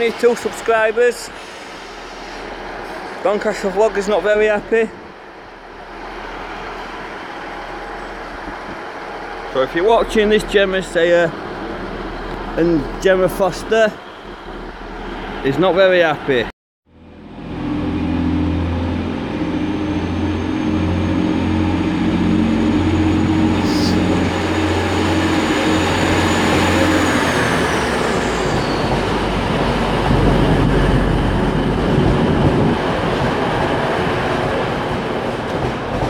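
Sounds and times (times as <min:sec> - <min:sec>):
train low drone: 0:00.0 - 0:16.3, 0:16.9 - 0:36.0
train carriages rushing by: 0:00.0 - 0:16.4, 0:17.2 - 0:36.0.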